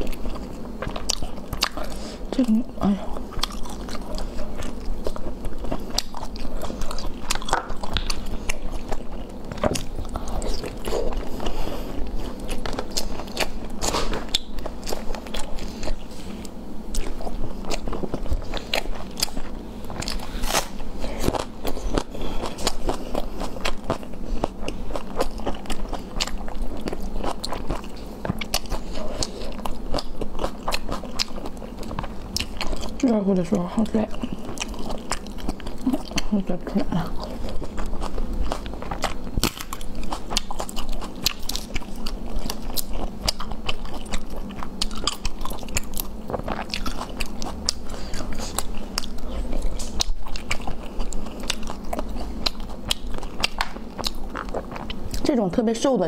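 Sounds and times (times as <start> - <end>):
person chewing with crunches: 0.0 - 55.6.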